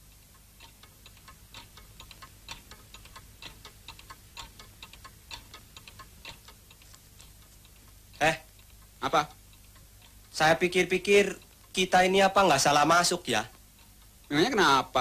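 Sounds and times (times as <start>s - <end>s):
wall clock ticking: 0.0s - 15.0s.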